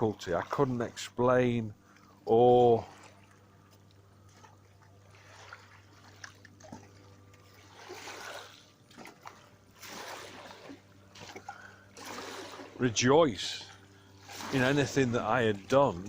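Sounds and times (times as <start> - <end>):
water lapping at shore: 0.0 - 16.0.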